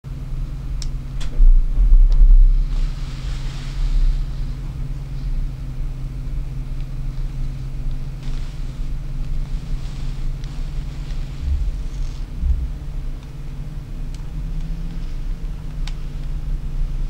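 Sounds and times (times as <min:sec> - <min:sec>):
low rumble on microphone: 0:00.1 - 0:17.0
steady low hum: 0:00.1 - 0:17.0.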